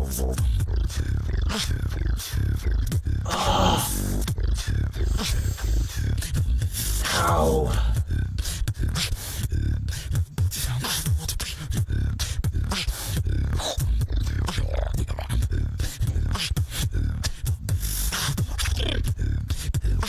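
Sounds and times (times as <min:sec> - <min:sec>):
person beatboxing into a microphone: 0:00.0 - 0:20.0.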